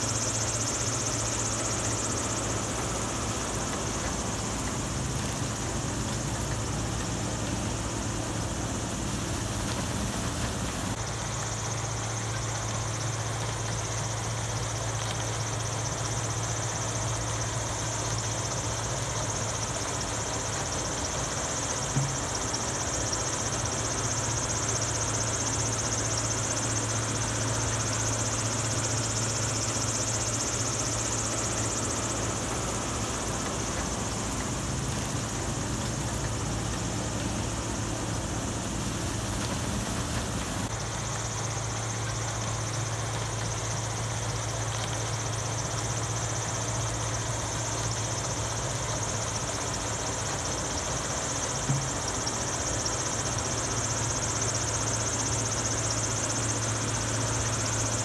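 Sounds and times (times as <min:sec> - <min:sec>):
constant high hiss: 0:00.0 - 0:58.0
heavy engines humming: 0:00.0 - 0:58.0.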